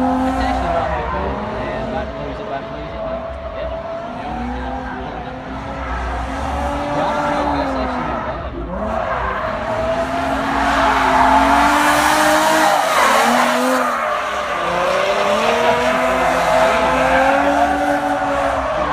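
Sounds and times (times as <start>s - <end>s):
car engine revving: 0.0s - 18.9s
tyres screeching on asphalt: 0.0s - 18.9s.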